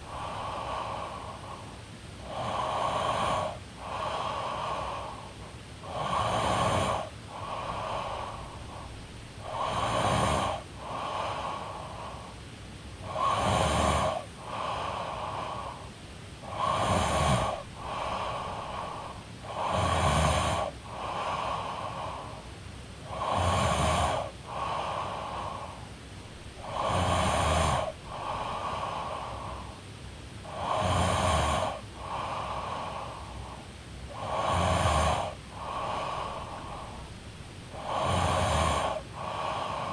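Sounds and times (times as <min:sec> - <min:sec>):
woman snoring: 0:00.0 - 0:12.3, 0:13.0 - 0:22.4, 0:23.1 - 0:25.8, 0:26.6 - 0:29.8, 0:30.4 - 0:39.9.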